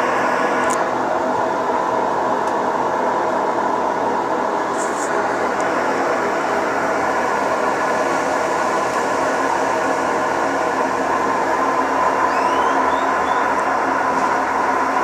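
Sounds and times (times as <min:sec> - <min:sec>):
washing machine spin cycle rumble: 0:00.0 - 0:15.0.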